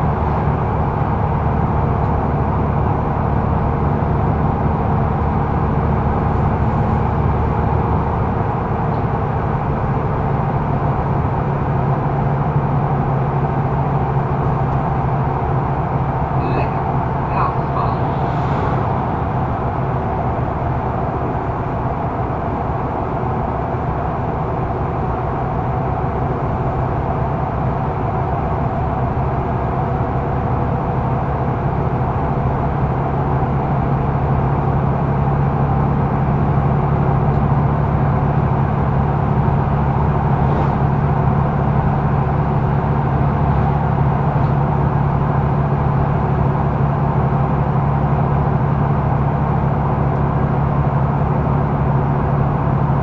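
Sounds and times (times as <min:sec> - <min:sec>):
bus engine hum: 0:00.0 - 0:53.0
road noise: 0:00.0 - 0:53.0.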